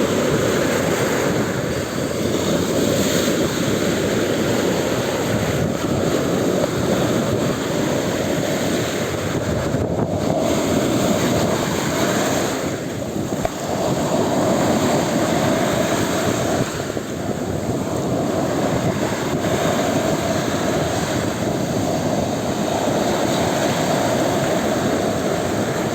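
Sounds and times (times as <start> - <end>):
waves breaking: 0.0 - 25.9
wind buffeting microphone: 0.0 - 25.9.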